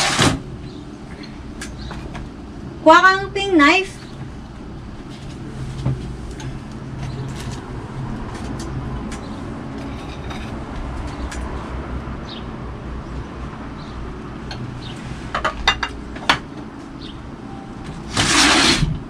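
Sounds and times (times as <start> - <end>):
outdoor rumble and hum: 0.0 - 19.0.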